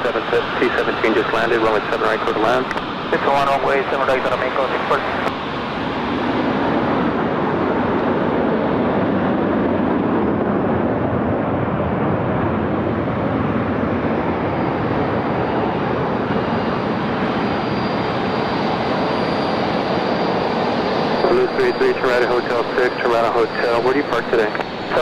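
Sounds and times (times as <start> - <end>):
high turbine whine: 0.0 - 25.0
jet engines running: 0.0 - 25.0.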